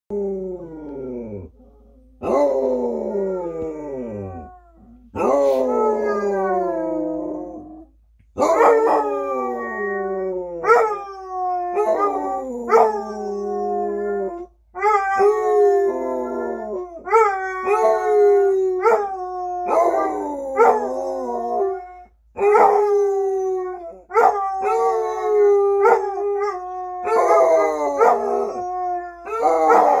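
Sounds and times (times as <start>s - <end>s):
hounds howling: 2.2s - 30.0s.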